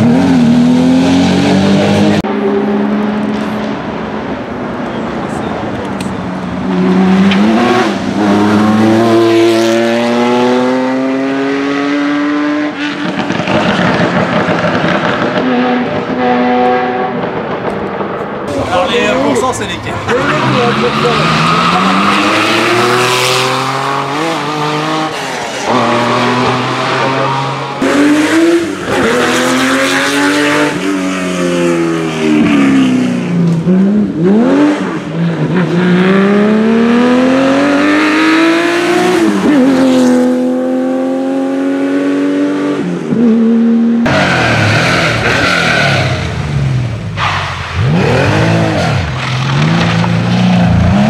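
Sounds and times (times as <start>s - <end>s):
rally car engines revving: 0.0s - 17.8s, 18.4s - 51.0s.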